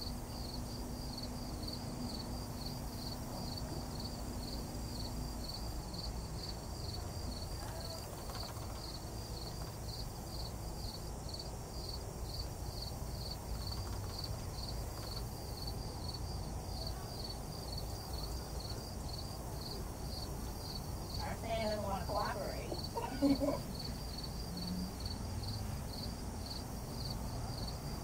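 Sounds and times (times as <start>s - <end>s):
insect chirping: 0.0s - 28.0s.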